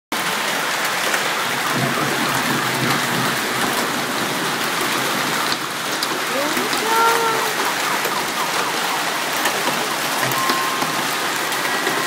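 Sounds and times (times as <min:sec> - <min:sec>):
hail and rain falling: 0:00.2 - 0:12.0
hailstones ticking on surfaces: 0:00.2 - 0:12.0.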